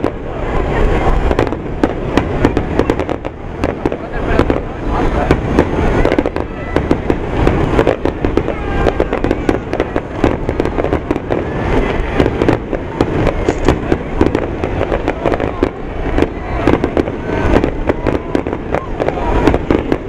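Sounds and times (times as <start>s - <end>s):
fireworks bangs and crackles: 0.0s - 20.0s
low rumble: 0.0s - 20.0s.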